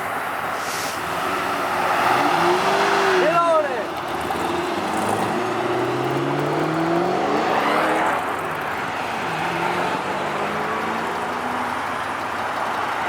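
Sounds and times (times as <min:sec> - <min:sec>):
car engine accelerating: 0:01.0 - 0:13.0.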